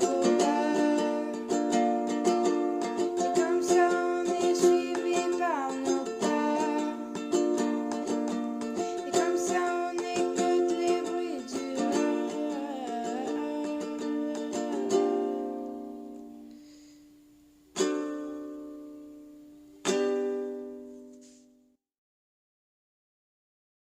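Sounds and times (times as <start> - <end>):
ukulele picking and strumming: 0.0 - 16.6, 17.7 - 21.4.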